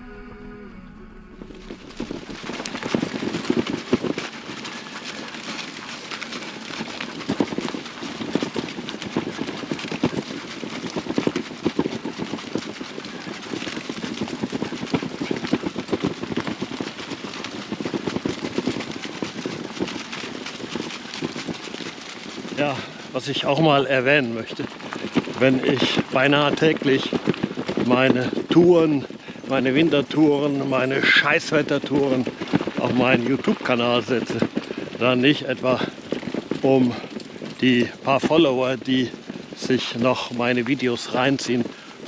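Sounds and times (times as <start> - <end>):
wheels rolling over gravel: 0.9 - 42.0.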